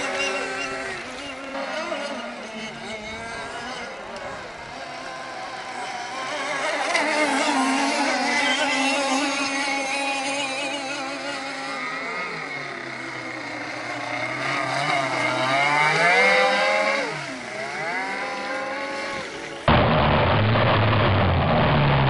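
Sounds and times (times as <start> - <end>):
two-stroke boat engine revving: 0.0 - 20.2.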